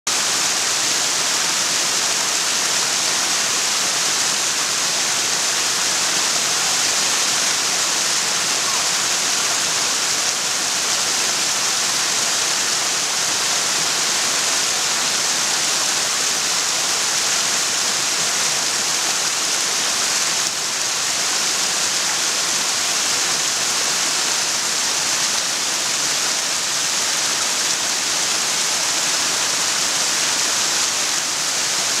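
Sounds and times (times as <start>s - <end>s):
waterfall rushing: 0.1s - 32.0s.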